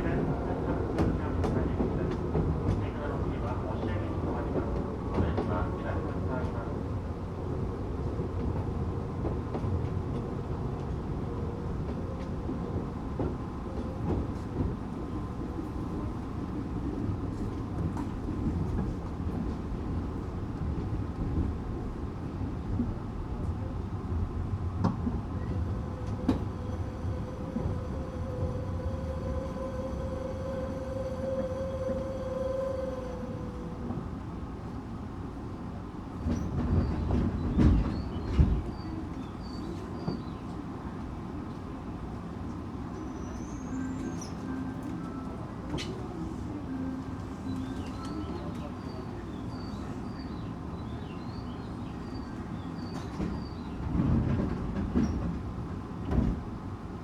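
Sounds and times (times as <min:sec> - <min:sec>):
rail joint clicks: 0:00.0 - 0:06.8, 0:08.1 - 0:21.6, 0:24.4 - 0:56.9
wheels rumbling on rail: 0:00.0 - 0:57.0.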